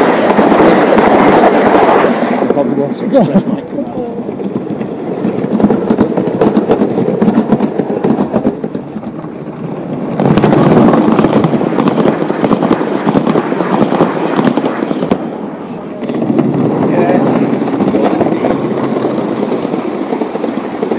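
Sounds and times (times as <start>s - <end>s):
model train wheels rattling: 0.0s - 20.9s.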